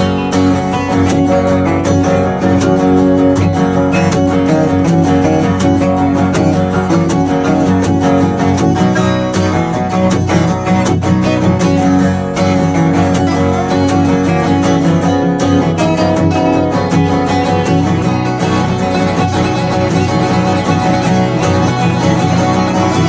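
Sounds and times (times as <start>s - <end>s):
acoustic band playing: 0.0s - 23.0s
strummed guitar: 0.0s - 23.0s.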